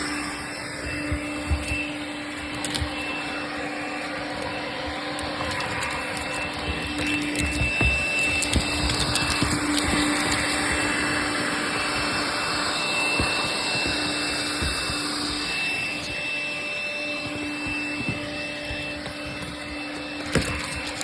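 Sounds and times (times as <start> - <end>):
vacuum cleaner whining: 0.0 - 21.0.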